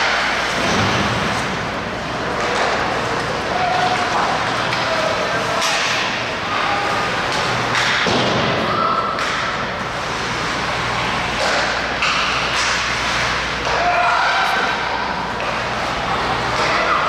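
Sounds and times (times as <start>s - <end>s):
skate and arena noise: 0.0s - 17.0s
voices: 2.1s - 17.0s.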